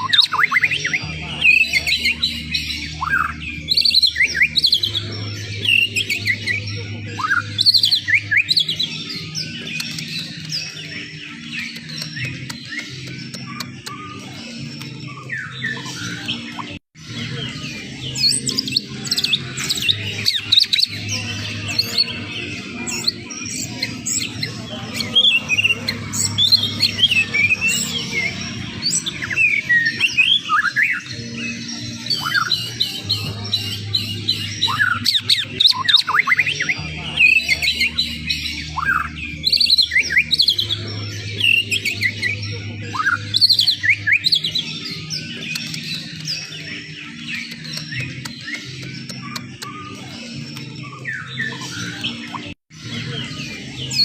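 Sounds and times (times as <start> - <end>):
bird singing chirps and whistles: 0.0 - 54.0
low backing music: 0.0 - 54.0.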